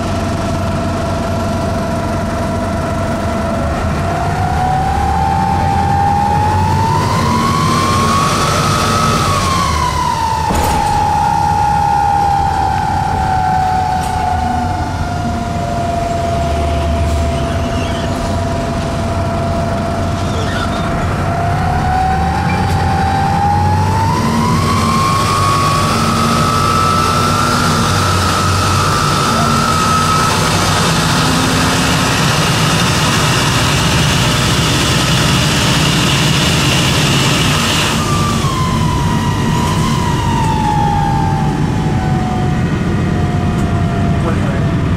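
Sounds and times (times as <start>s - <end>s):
bus engine running: 0.0s - 44.9s
turbo whistling whine: 0.0s - 44.9s.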